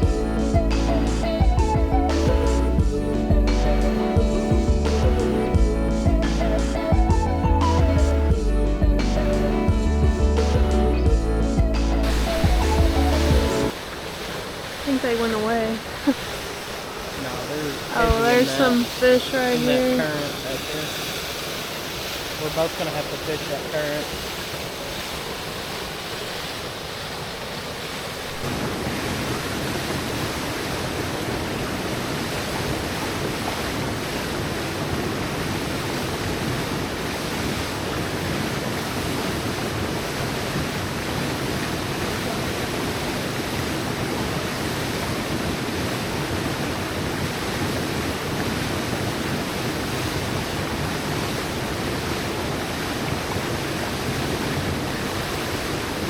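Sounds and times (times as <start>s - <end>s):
river current rushing: 0.0s - 56.0s.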